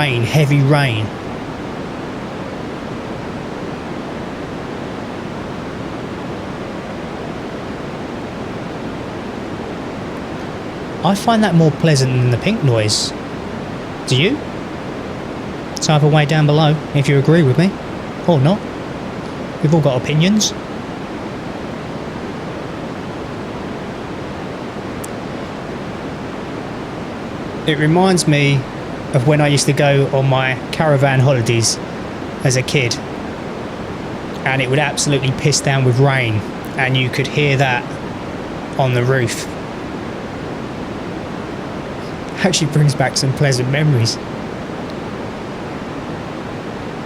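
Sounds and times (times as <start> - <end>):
steady white noise hiss: 0.0 - 47.0.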